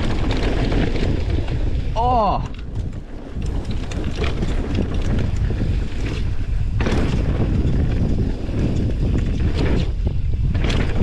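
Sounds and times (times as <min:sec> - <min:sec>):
bike clicks and rattles: 0:00.0 - 0:11.0
tyres rolling on dirt: 0:00.0 - 0:11.0
wind buffeting microphone: 0:00.0 - 0:11.0.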